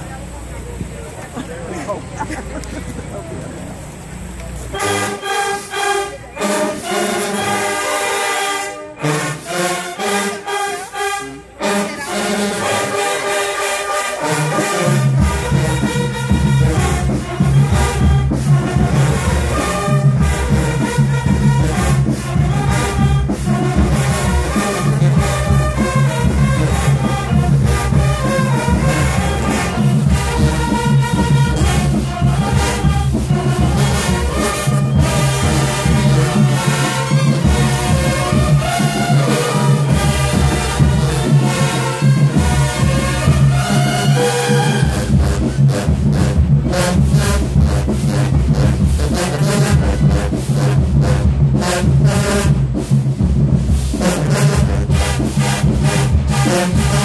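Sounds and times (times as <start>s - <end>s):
marching band brass playing chords: 0.0s - 57.0s
steady drum beat: 9.2s - 57.0s.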